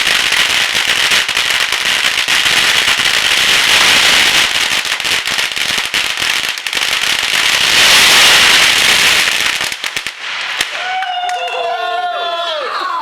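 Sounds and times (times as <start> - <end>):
firecrackers crackling: 0.0 - 11.8.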